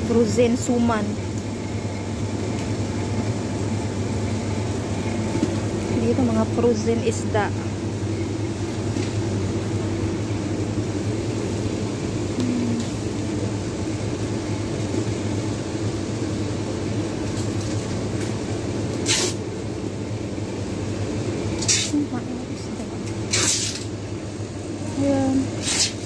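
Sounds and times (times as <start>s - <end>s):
freezers and ventilation humming: 0.0s - 26.0s.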